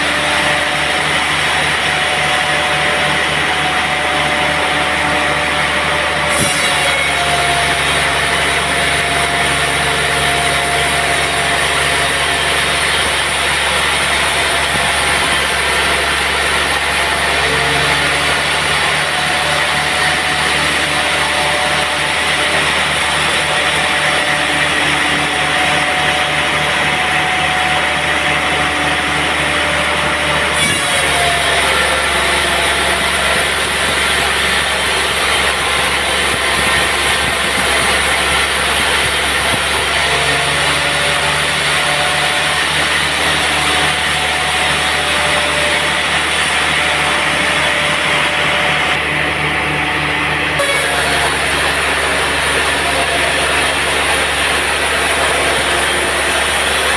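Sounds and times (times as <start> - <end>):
sawmill sawing log: 0.0 - 56.9.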